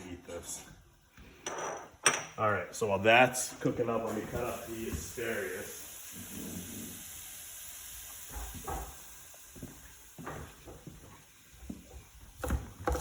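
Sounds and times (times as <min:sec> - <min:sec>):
onion and garlic sizzling: 0:02.4 - 0:13.0.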